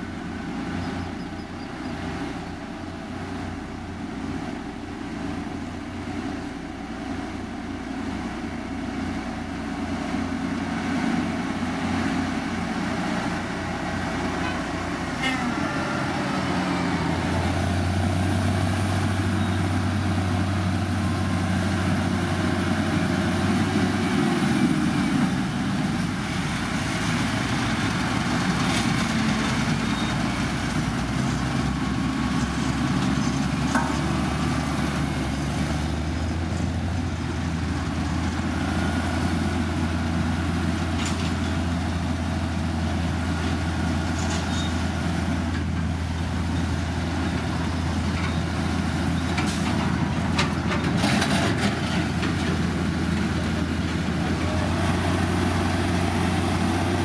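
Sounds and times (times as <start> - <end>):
heavy machinery engines droning: 0.0 - 57.0.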